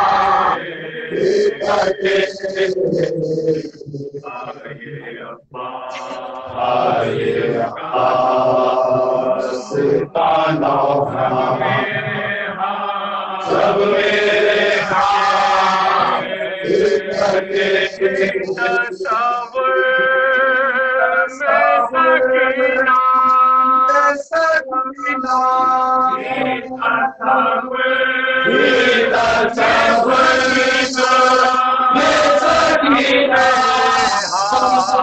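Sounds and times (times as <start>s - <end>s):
man chanting into microphone: 0.0s - 12.3s, 13.4s - 35.0s.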